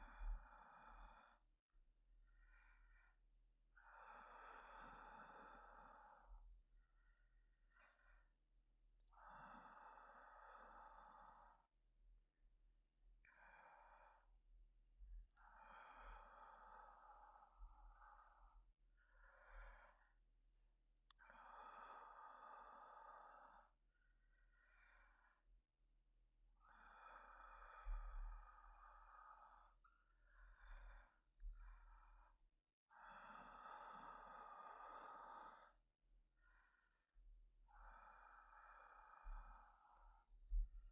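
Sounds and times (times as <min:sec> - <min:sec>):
man breathing slowly: 0:00.0 - 0:01.5, 0:02.2 - 0:03.2, 0:03.8 - 0:08.4, 0:09.1 - 0:11.7, 0:13.2 - 0:14.5, 0:15.3 - 0:20.3, 0:21.0 - 0:25.5, 0:26.6 - 0:40.9.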